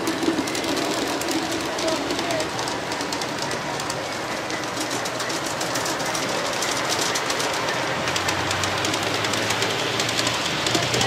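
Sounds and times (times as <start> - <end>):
model train wheels clicking: 0.0 - 11.0.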